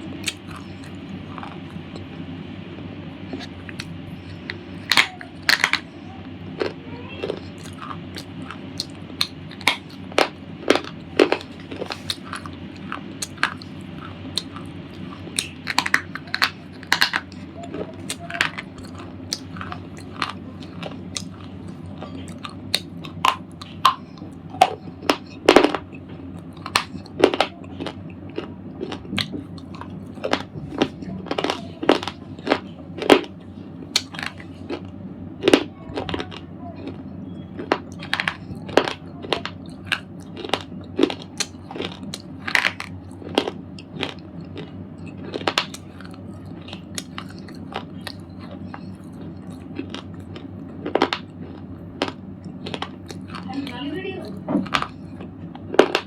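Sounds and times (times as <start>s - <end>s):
slate ball crunching: 0.0s - 2.2s, 2.8s - 5.9s, 6.6s - 37.0s, 37.6s - 56.0s
steady low hum: 0.0s - 56.0s.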